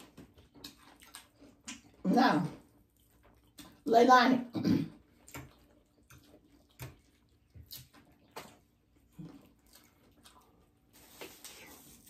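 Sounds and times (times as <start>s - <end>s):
wet chewing and lip-smacking: 0.0s - 3.9s, 4.9s - 11.0s.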